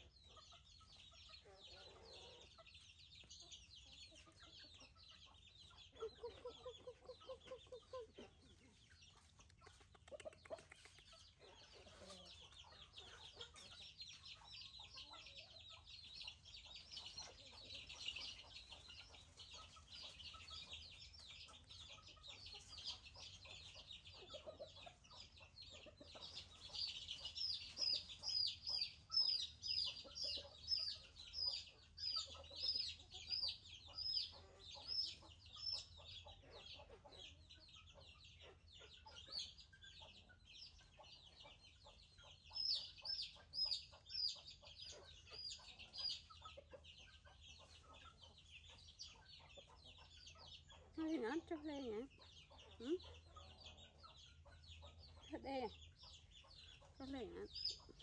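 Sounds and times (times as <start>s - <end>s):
chickens peeping: 0.0s - 58.0s
low chicken clucks: 0.0s - 58.0s.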